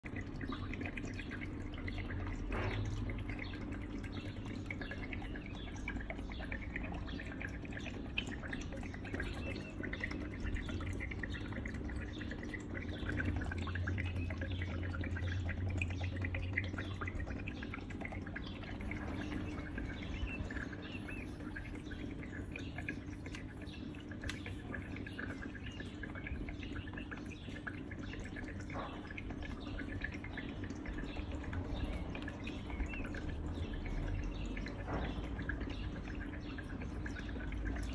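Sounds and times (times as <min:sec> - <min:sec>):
low steady hum: 0:00.0 - 0:37.9
water trickling in small fountain: 0:00.0 - 0:37.9.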